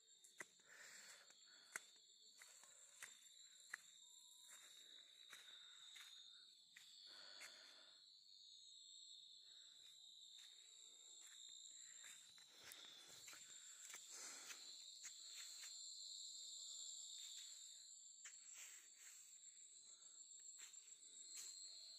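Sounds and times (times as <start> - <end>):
crickets trilling: 0.0 - 21.9.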